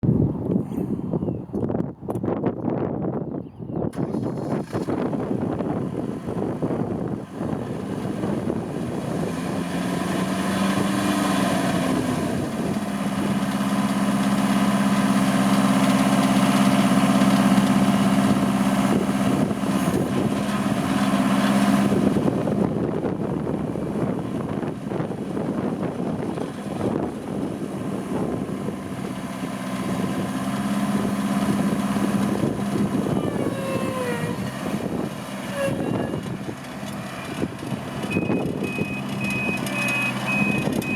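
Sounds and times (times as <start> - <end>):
tractor engine revving: 3.9 - 40.9.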